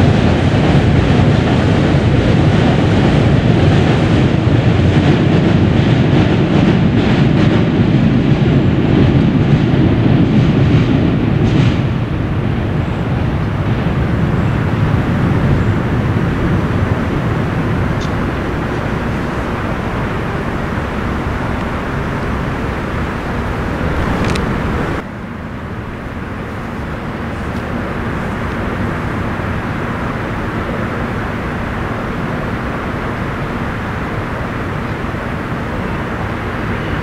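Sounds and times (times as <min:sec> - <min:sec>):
outdoor rumble and hiss: 0:00.0 - 0:37.0.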